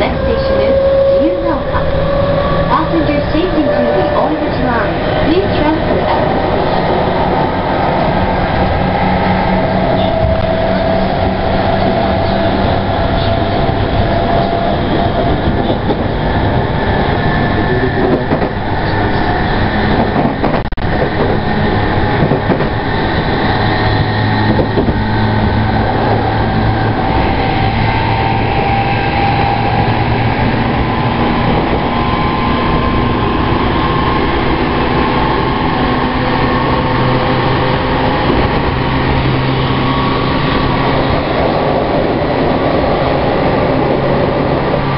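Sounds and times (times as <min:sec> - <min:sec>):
train motor whine: 0:00.0 - 0:44.9
train wheels rumbling on rail: 0:00.0 - 0:44.9.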